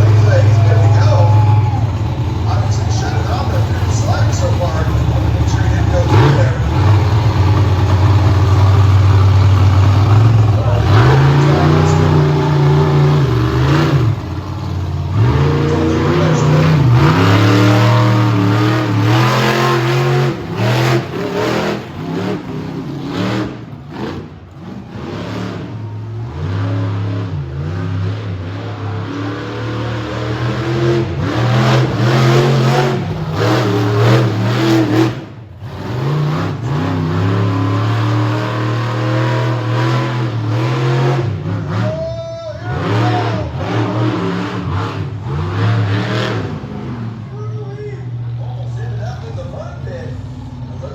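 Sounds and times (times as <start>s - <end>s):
monster truck engine revving: 0.0s - 50.9s.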